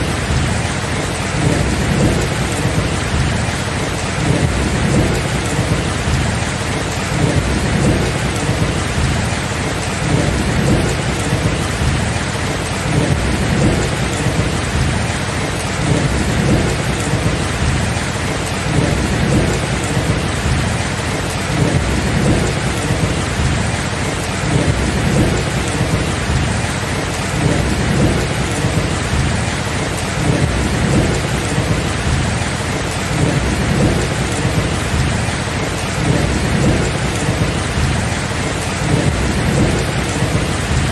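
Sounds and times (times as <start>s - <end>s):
low rumble of thunder: 0.0s - 40.9s
steady rain: 0.0s - 40.9s.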